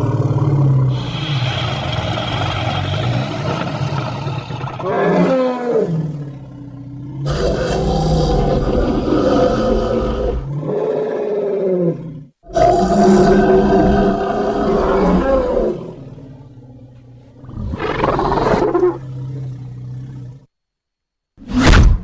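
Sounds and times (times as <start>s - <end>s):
dinosaur creature roars: 0.0s - 20.4s.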